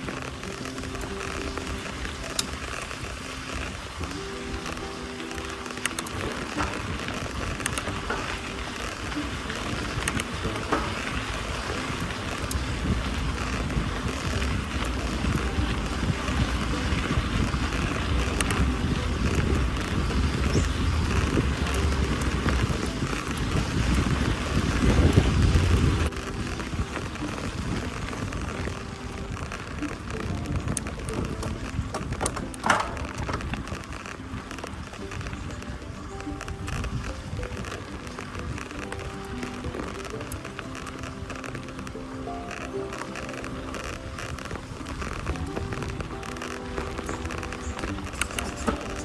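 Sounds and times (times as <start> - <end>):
bike tyre and drivetrain rattle: 0.0 - 49.0
wind buffeting microphone: 0.0 - 49.0.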